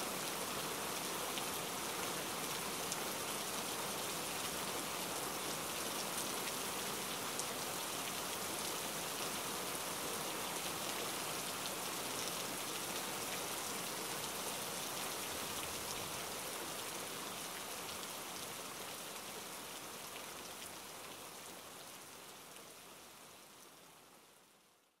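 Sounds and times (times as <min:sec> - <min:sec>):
steady rainfall: 0:00.0 - 0:24.9.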